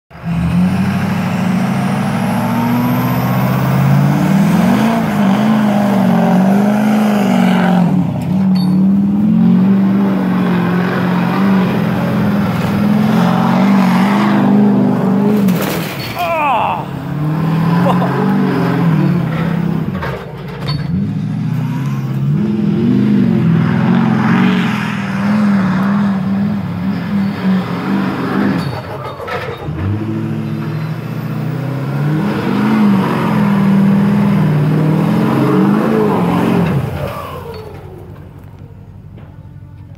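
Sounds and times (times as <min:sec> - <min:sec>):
diesel truck engine revving: 0:00.1 - 0:39.1.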